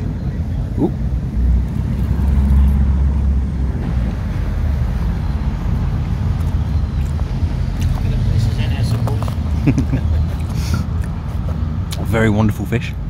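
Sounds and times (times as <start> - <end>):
faint engine hum: 0.0 - 13.0
road traffic rumble: 0.0 - 13.0.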